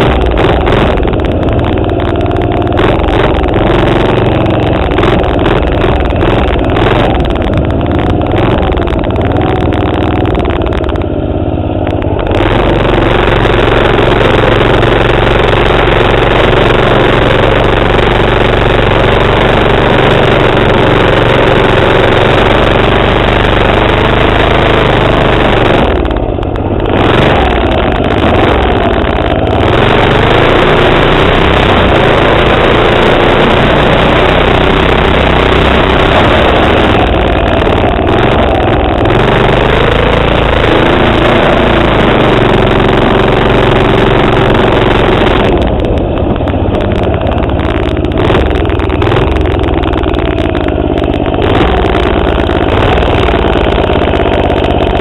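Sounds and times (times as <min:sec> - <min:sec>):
small engine running under throttle: 0:00.0 - 0:55.0.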